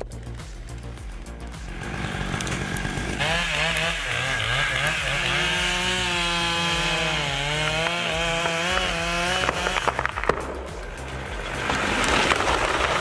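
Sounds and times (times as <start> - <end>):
chainsaw cutting wood: 1.6 - 13.0.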